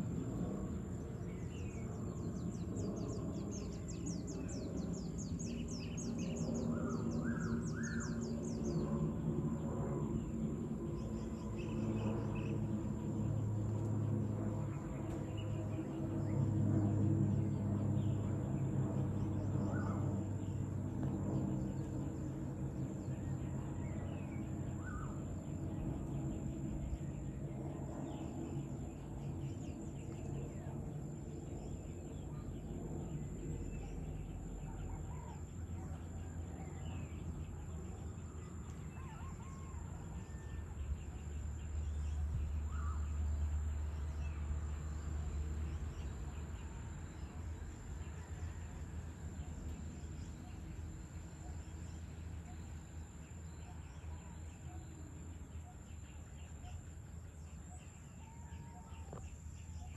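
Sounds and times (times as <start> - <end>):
high insect drone: 0.0 - 39.7, 40.4 - 59.9
bird calls and chirps: 0.4 - 59.9.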